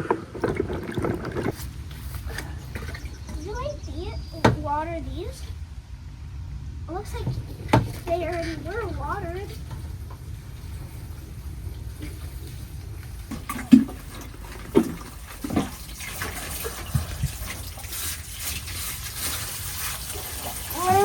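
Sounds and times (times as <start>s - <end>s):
water pouring and splashing: 0.0s - 3.6s, 7.0s - 21.0s.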